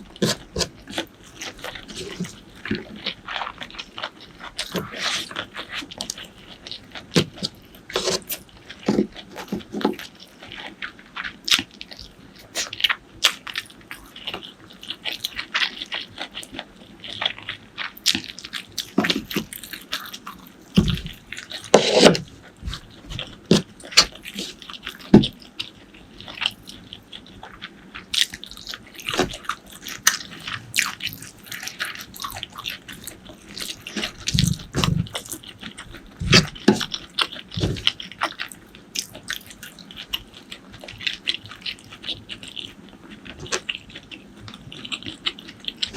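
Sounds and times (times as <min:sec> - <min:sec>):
chewing and crunching food: 0:00.0 - 0:45.9.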